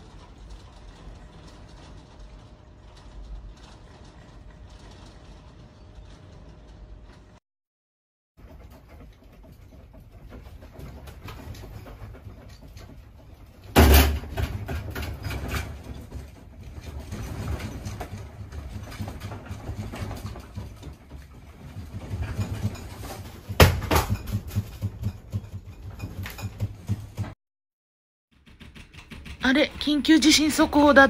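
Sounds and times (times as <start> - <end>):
house contents rattling and clicking: 0.0 - 7.4, 8.4 - 27.4, 28.3 - 31.0.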